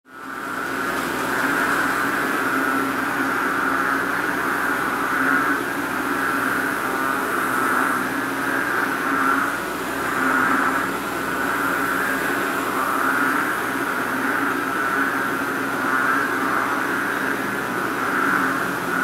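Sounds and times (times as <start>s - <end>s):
chorus of frogs calling: 0.1s - 19.0s.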